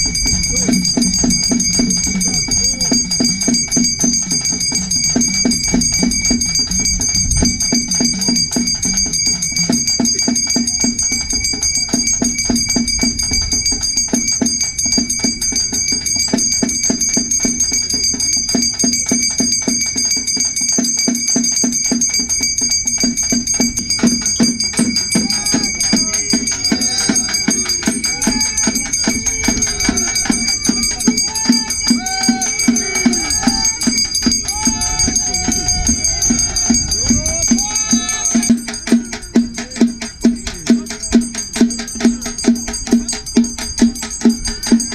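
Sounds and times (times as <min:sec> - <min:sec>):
fast steady drumming: 0:00.0 - 0:44.9
high ringing tone: 0:00.0 - 0:44.9
jingling rattling percussion: 0:00.0 - 0:44.9.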